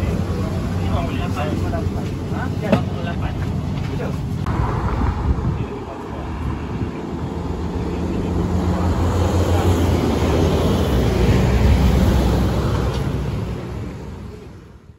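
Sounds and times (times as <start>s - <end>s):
road traffic rumbling: 0.0s - 14.9s.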